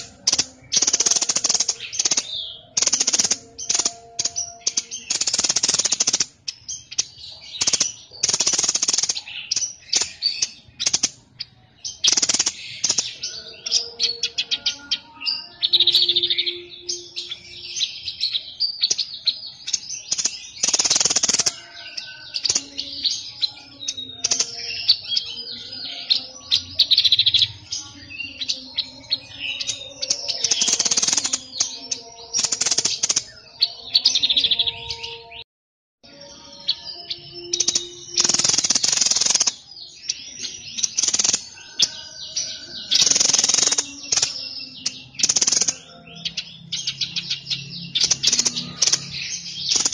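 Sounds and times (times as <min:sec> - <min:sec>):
songbird chirping and trilling: 0:00.0 - 0:49.9.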